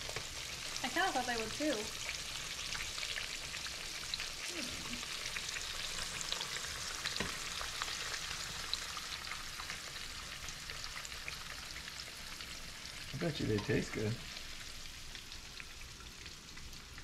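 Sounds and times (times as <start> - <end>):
battered food frying in oil: 0.0 - 17.0.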